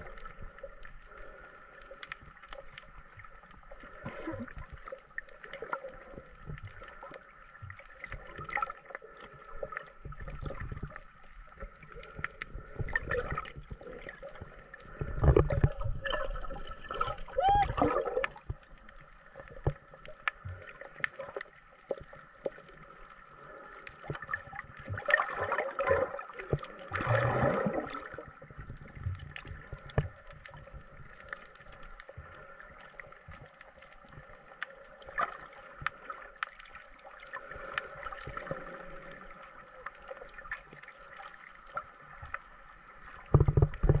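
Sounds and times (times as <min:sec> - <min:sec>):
muffled underwater wash: 0:00.0 - 0:44.0
rush of moving water: 0:00.0 - 0:44.0
small clicks and crackles: 0:00.0 - 0:44.0.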